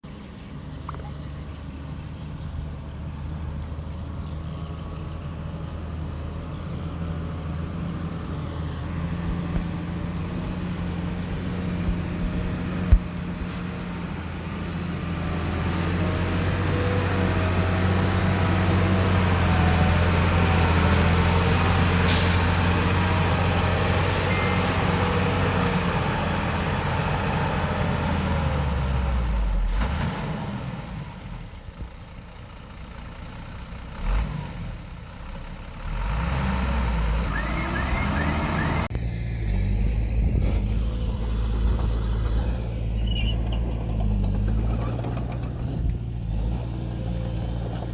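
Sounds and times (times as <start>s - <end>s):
diesel engine drone: 0.0s - 47.9s.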